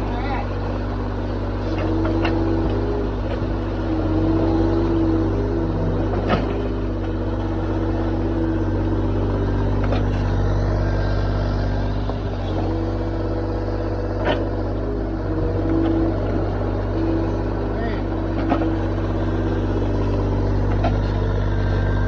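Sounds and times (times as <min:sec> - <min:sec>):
excavator diesel engine: 0:00.0 - 0:22.0
low hum: 0:00.0 - 0:22.0.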